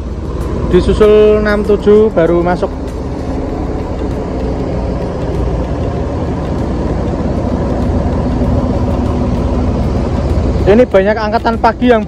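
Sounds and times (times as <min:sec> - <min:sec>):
diesel bus engines rumbling: 0:00.0 - 0:12.0.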